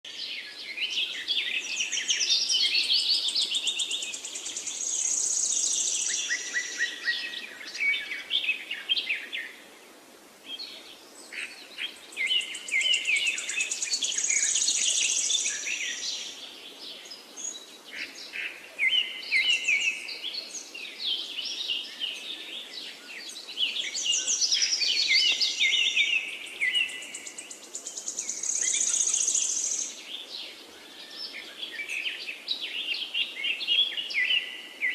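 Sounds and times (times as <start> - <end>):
songbird chirping and trilling: 0.0 - 9.8, 10.4 - 34.9
faint outdoor hiss: 0.1 - 34.9.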